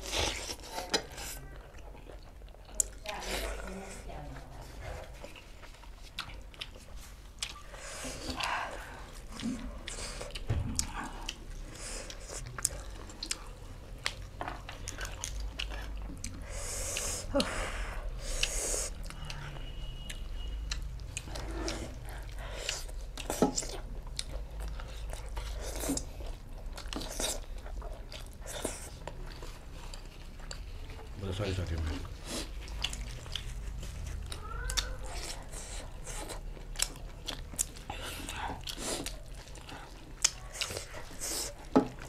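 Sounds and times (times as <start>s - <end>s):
person chewing food: 0.0s - 42.0s.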